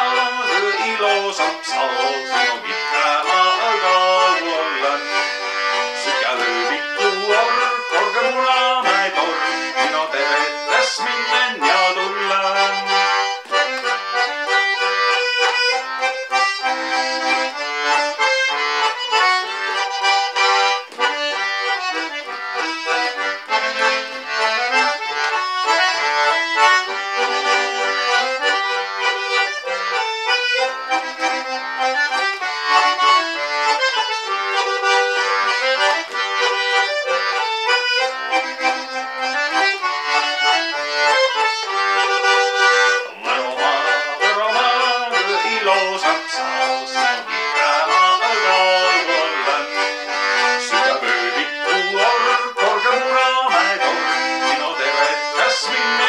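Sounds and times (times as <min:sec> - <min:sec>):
concertina folk tune: 0:00.0 - 0:56.0.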